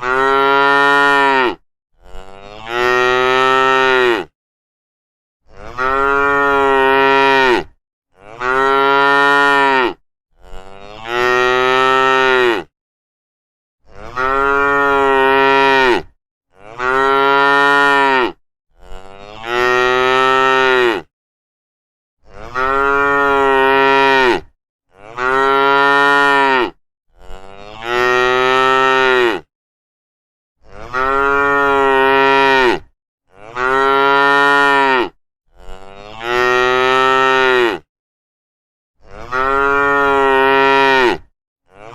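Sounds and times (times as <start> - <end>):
cattle mooing: 0.0 - 4.3, 5.5 - 12.7, 14.0 - 21.1, 22.4 - 29.5, 30.6 - 37.9, 39.1 - 41.9.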